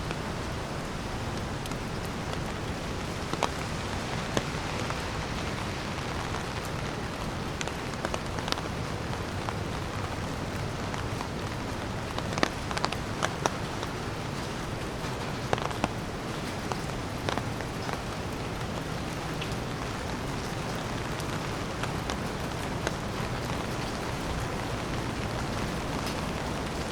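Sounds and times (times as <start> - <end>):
rain hissing: 0.0 - 26.9
raindrops ticking: 0.0 - 26.9.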